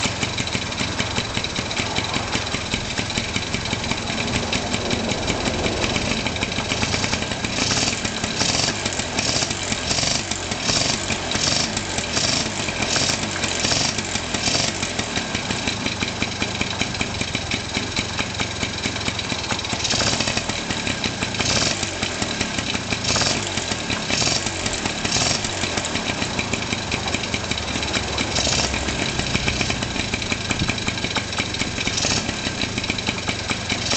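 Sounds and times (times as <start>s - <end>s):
scooter engine idling: 0.0s - 33.9s.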